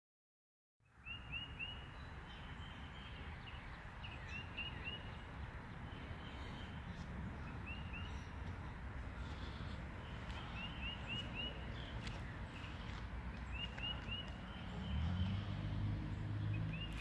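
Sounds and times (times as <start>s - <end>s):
bird chirping: 0.8s - 17.0s.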